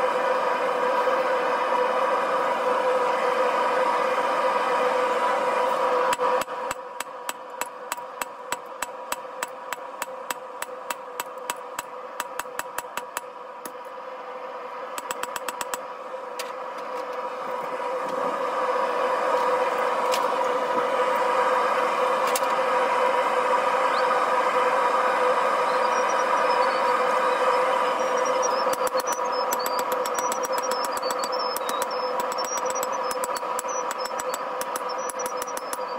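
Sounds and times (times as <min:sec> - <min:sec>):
forge burner roar: 0:00.0 - 0:35.9.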